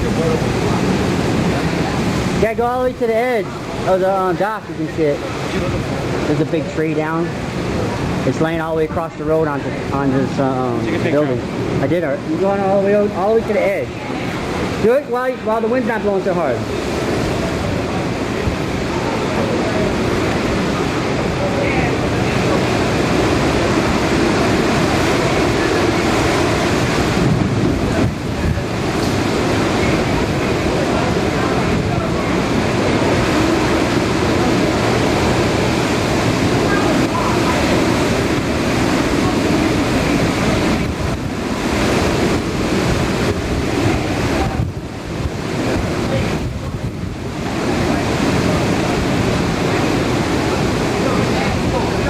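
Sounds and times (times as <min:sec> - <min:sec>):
heavy rain: 0:00.0 - 0:52.0
strong wind roaring: 0:00.0 - 0:52.0.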